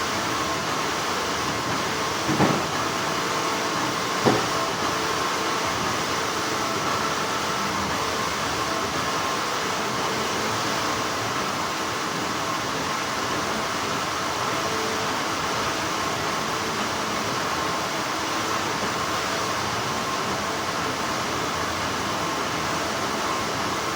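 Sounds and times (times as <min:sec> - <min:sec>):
factory machinery whirring: 0:00.0 - 0:23.9.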